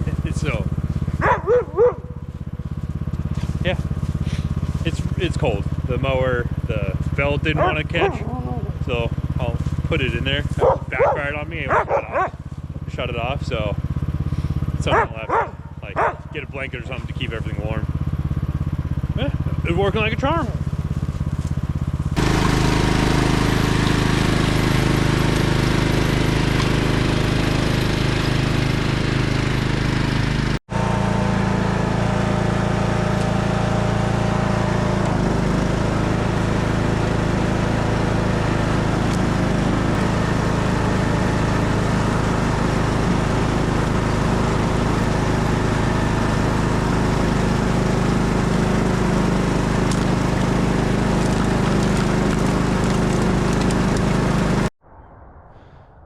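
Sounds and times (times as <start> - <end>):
lawn tractor engine running: 0.0 - 54.7.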